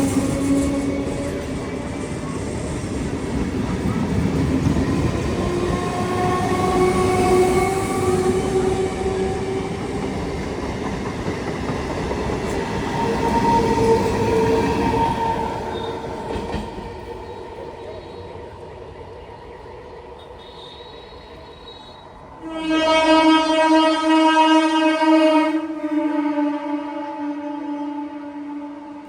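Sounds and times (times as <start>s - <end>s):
train wheels rumbling on rails: 0.0s - 23.7s.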